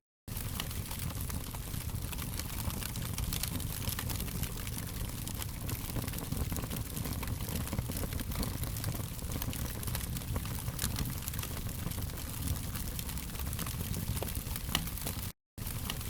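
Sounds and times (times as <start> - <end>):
low rumble of flames: 0.3 - 16.0
wood fire crackling and popping: 0.3 - 16.0.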